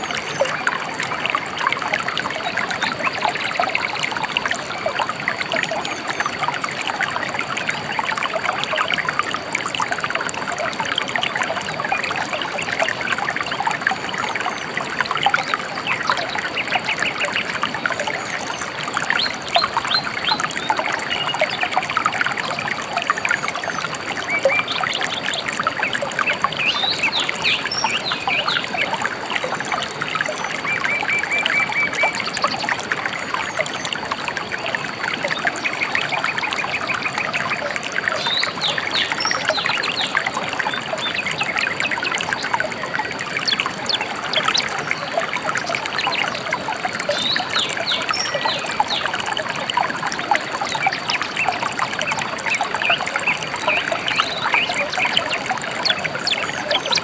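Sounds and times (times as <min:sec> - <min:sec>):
river trickling and babbling: 0:00.0 - 0:57.0.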